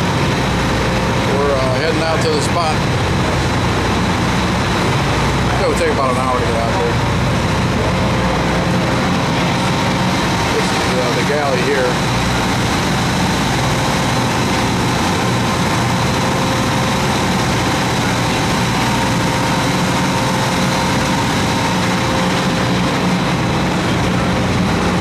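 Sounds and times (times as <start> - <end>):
boat engine droning: 0.0 - 25.0
rushing noise: 0.0 - 25.0.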